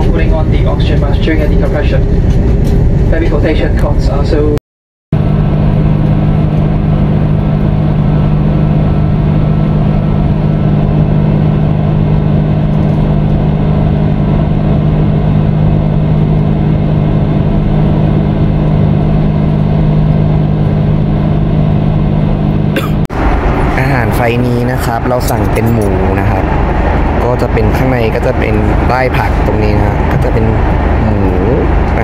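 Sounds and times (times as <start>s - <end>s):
jet engines and airflow in cabin: 0.0s - 4.6s, 5.2s - 32.0s.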